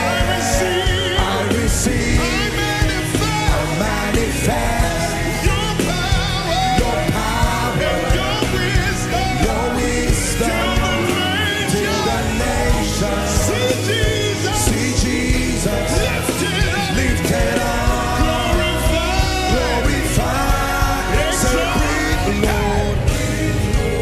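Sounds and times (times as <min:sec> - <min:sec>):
band with bass and drums: 0:00.0 - 0:24.0
person singing: 0:00.0 - 0:24.0.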